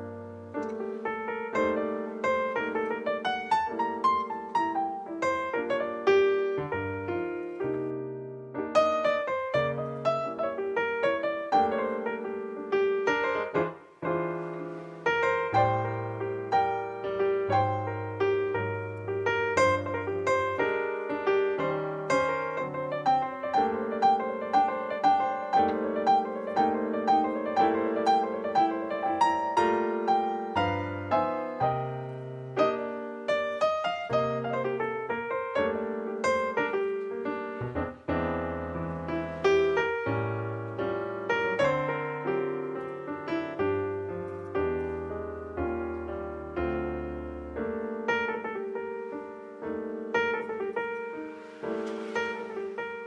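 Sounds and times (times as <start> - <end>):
solo piano music: 0.0 - 53.0.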